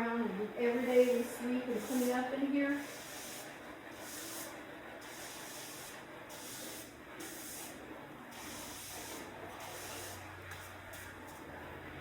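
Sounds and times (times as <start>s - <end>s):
broom sweeping a floor: 0.8s - 11.5s.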